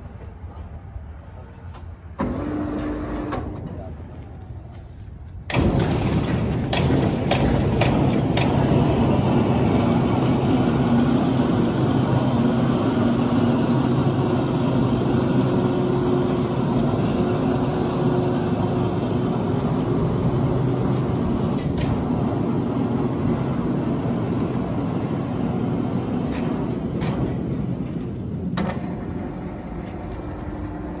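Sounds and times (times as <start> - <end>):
diesel engine starting and running: 1.7 - 31.0.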